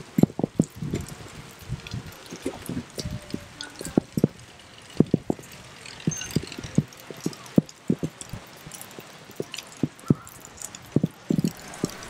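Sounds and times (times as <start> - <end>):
light rain hiss: 0.0 - 12.0
raindrops tapping: 0.0 - 12.0.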